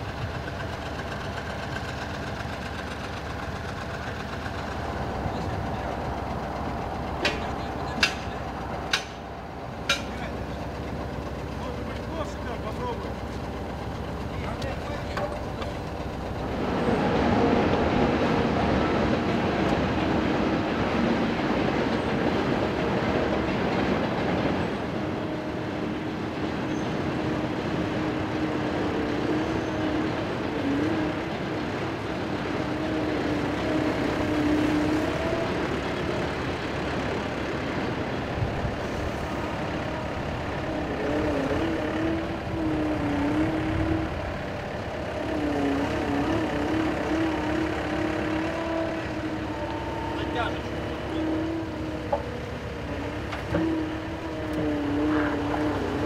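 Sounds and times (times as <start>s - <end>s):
diesel locomotive engines droning: 0.0s - 56.0s
loader diesel engine running: 0.0s - 56.0s.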